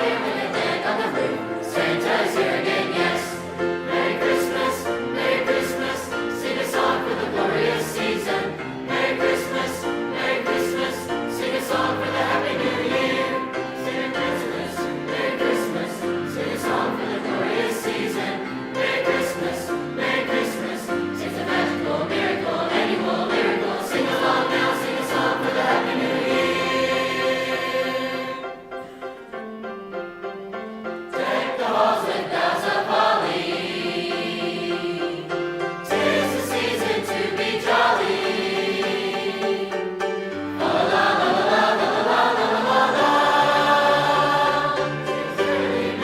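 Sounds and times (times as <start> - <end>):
choir singing held chords: 0.0 - 29.1, 31.0 - 46.0.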